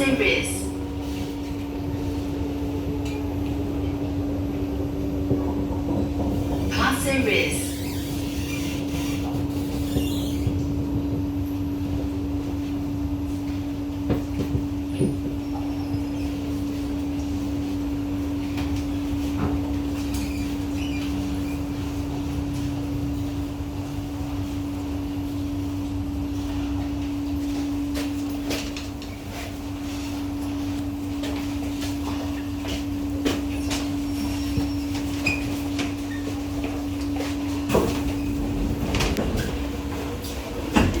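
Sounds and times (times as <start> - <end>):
metro train humming: 0.0 - 41.0.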